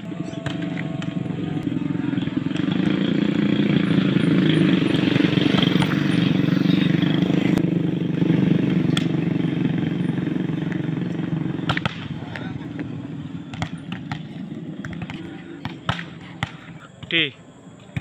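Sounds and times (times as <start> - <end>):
motorcycle engine running: 0.0 - 16.6.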